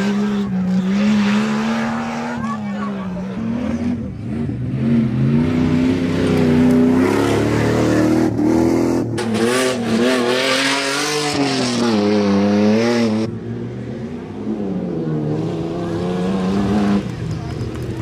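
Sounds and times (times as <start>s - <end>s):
off-road engines revving: 0.0s - 18.0s.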